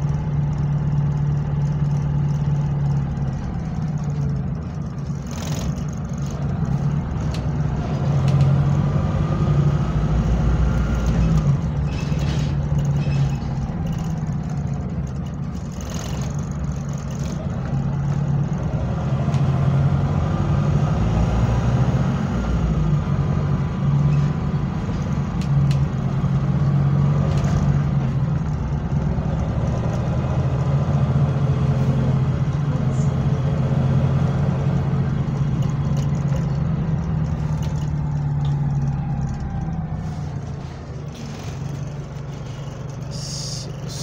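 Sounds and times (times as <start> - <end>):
bus body rattling: 0.0 - 44.0
bus engine droning: 0.0 - 44.0.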